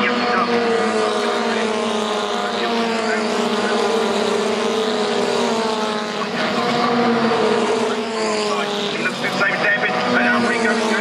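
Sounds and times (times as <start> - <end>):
racing cars at high revs: 0.0 - 11.0.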